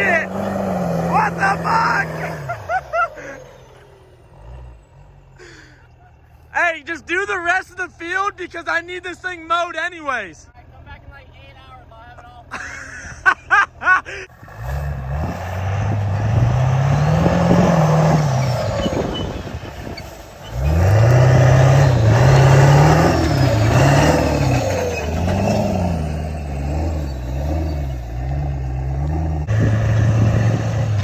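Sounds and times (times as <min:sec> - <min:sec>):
pickup truck engine revving: 0:00.0 - 0:07.2, 0:13.3 - 0:31.0.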